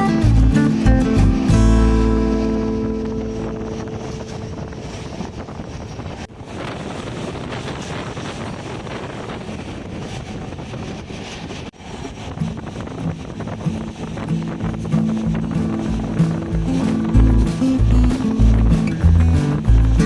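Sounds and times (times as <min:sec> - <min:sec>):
train rushing: 0:00.0 - 0:20.0
wind buffeting microphone: 0:00.0 - 0:20.0.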